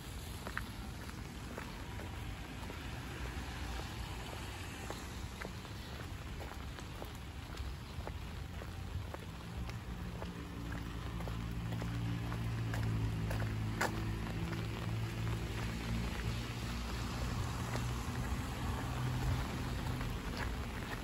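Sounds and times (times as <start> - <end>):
light rain hiss: 0.0 - 21.0
rain drop ticks: 3.7 - 21.0.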